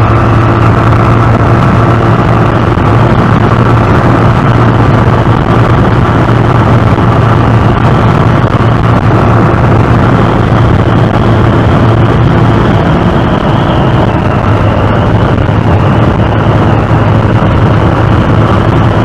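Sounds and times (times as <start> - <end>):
motorcycle engine hum: 0.0 - 19.0
road and wind noise: 0.0 - 19.0.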